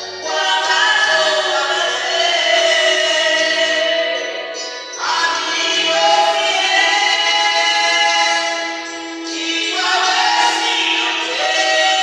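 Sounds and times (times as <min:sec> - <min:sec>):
women singing gospel through pa: 0:00.0 - 0:12.0.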